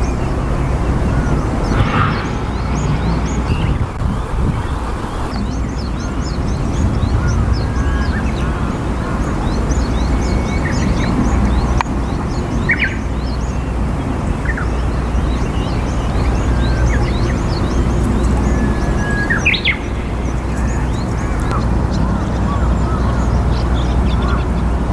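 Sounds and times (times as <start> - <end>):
birds chirping: 0.0 - 24.9
lower bird calls: 0.0 - 24.9.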